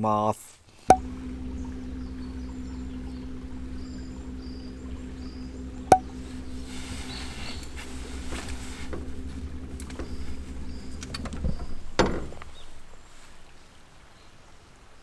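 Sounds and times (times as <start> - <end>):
faint outdoor background: 0.0 - 14.3
motor humming: 0.9 - 13.8.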